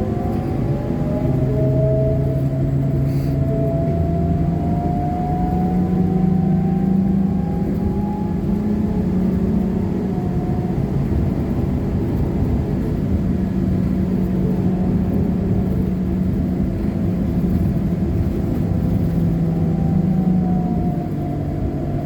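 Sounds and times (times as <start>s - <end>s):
electric drive whine: 0.0s - 22.0s
road rumble: 0.0s - 22.0s.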